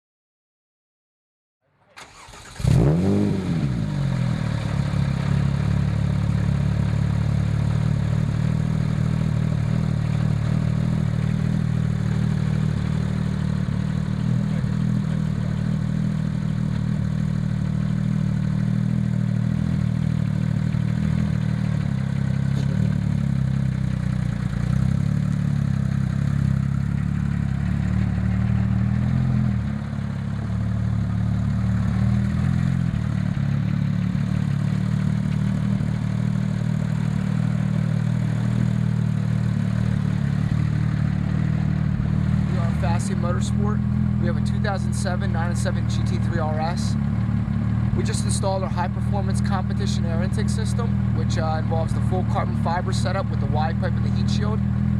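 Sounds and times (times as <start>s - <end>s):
car engine idling: 1.9s - 54.9s.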